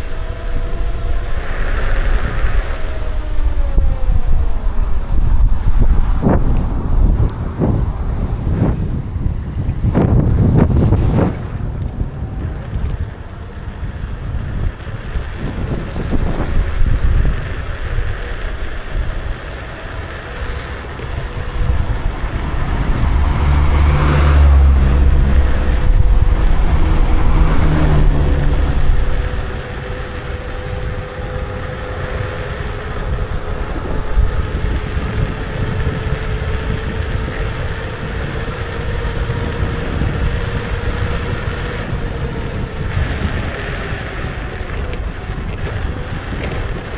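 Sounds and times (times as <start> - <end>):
electric motor whine: 0.0 - 46.9
low rumble: 0.0 - 46.9
wind on microphone: 0.0 - 46.9.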